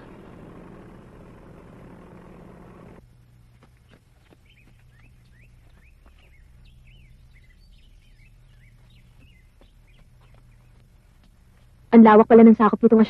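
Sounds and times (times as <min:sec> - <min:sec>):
faint songbirds chirping: 0:00.0 - 0:12.4
low steady hum: 0:00.0 - 0:13.0.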